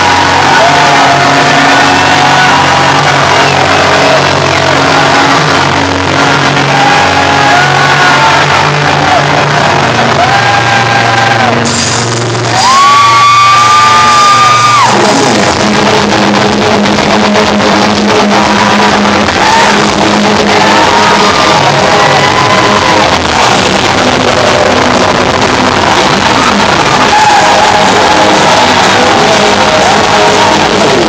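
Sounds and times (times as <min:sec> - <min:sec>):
heavy metal band playing live: 0:00.0 - 0:31.0.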